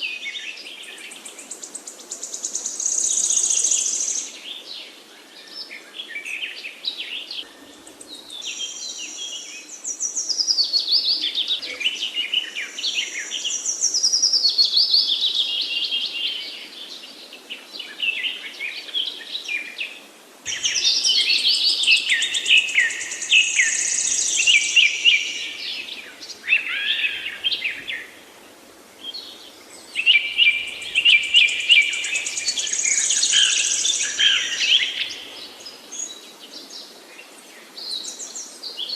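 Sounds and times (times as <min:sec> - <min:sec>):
songbirds chorus: 0:00.0 - 0:38.9.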